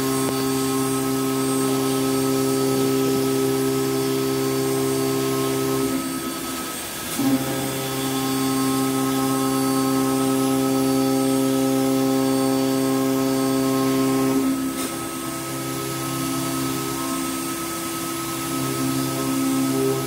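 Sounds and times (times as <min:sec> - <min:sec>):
router spindle hum and whine: 0:00.0 - 0:20.0.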